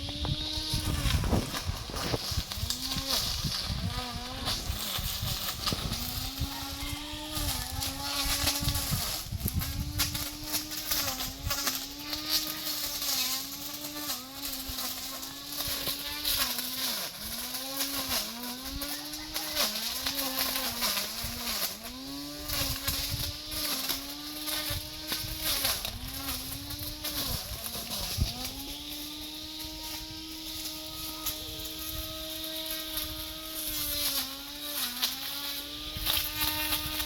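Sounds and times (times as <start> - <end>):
brush cutter engine cutting: 0.0 - 37.0.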